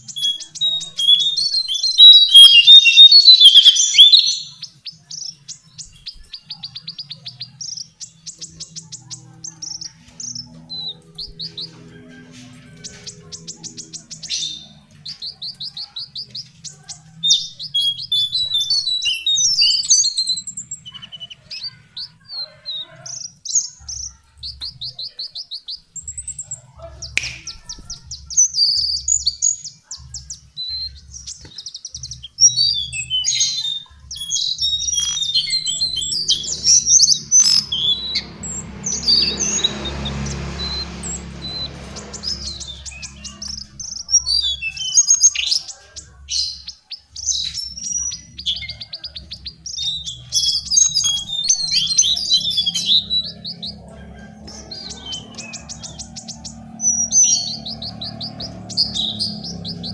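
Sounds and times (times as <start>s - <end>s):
bird singing high trills: 0.0s - 26.5s, 27.4s - 59.9s.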